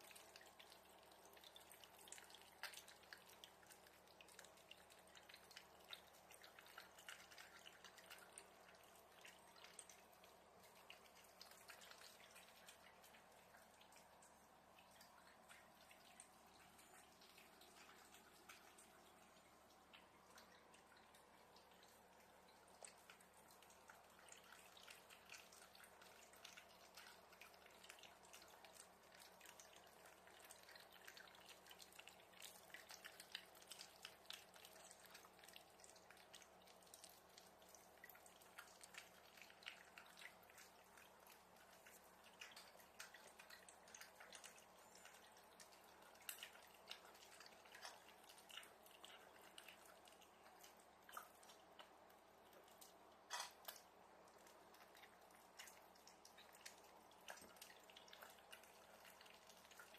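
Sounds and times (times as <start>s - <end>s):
soft clicks and ticks: 0.0s - 59.9s.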